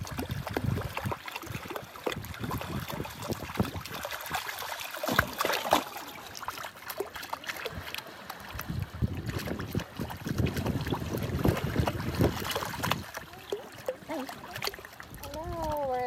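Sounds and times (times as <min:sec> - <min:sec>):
small water splashes: 0:00.0 - 0:16.0
water lapping among rocks: 0:00.0 - 0:16.0.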